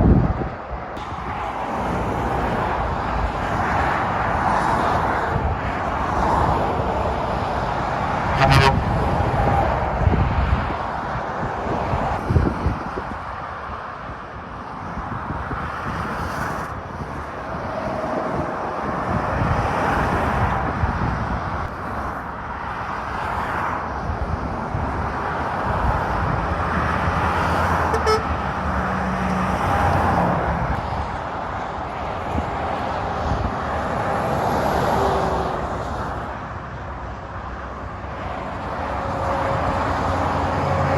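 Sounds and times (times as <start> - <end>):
motorway traffic passing at speed: 0.0 - 40.9.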